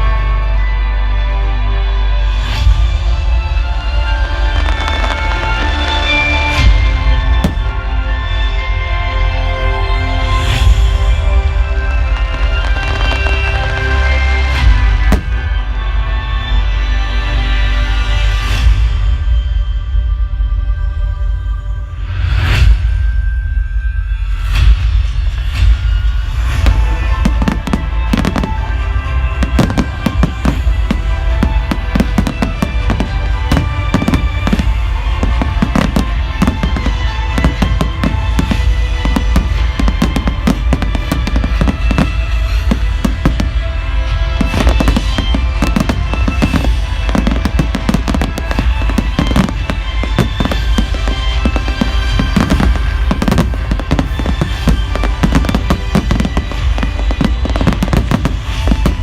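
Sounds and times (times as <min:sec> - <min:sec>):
music playing: 0:00.0 - 0:59.0
fireworks bangs and crackles: 0:02.1 - 0:09.2, 0:09.8 - 0:19.1, 0:24.4 - 0:59.0.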